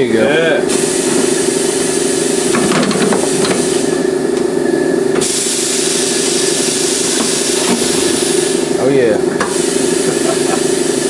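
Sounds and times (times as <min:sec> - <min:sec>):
air compressor running: 0:00.0 - 0:11.0
compressed air hissing: 0:00.0 - 0:11.0.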